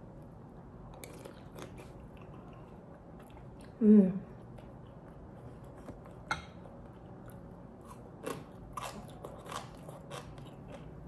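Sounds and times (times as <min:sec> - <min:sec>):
person chewing food: 0:00.9 - 0:11.0.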